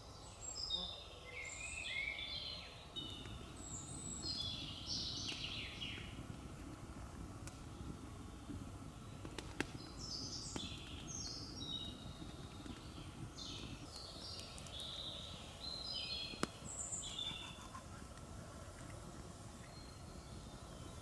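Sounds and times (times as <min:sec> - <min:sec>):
songbird singing: 0:00.0 - 0:06.3, 0:07.6 - 0:21.0.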